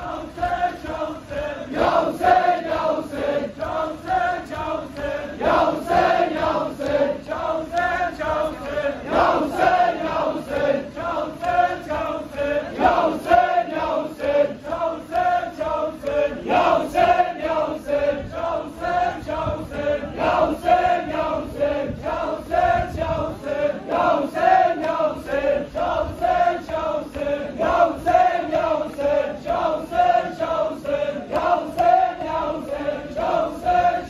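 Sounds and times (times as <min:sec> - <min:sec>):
crowd of men chanting in unison: 0:00.0 - 0:34.0
rhythmic chest beating: 0:00.0 - 0:34.0.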